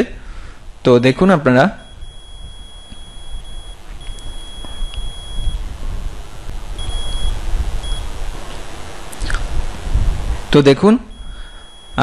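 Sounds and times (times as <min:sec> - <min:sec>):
high-pitched electronic whine: 0:00.0 - 0:12.0
low rumbling background noise: 0:00.0 - 0:12.0.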